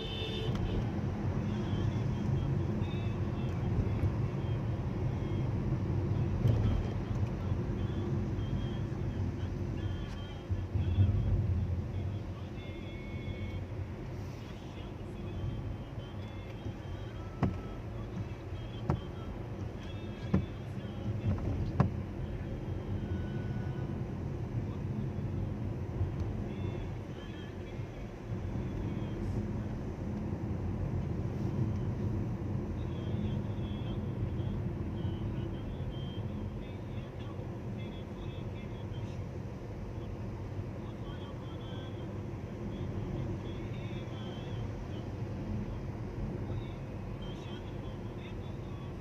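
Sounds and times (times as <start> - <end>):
traffic rumble: 0.0 - 49.0.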